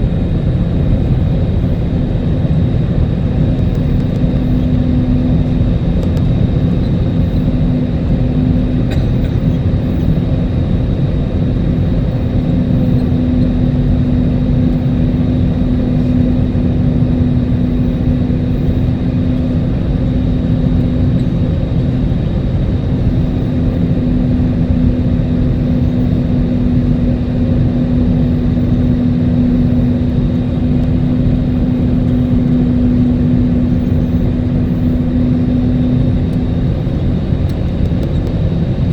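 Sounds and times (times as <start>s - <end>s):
airplane cabin engine rumble: 0.0s - 38.9s
constant low hum: 0.0s - 38.9s
faint high whine: 0.0s - 38.9s.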